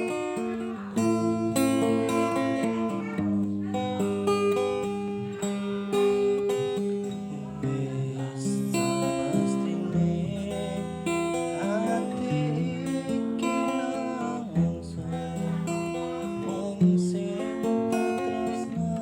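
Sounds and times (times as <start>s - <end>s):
plucked string instrument melody: 0.0s - 19.0s.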